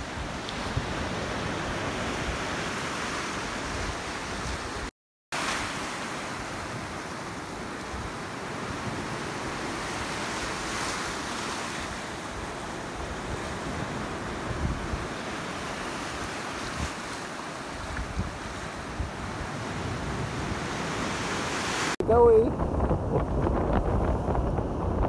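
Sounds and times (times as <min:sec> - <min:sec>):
wind rumbling on microphone: 0:00.0 - 0:04.9, 0:07.5 - 0:25.0
small waves washing against shore: 0:00.0 - 0:25.0.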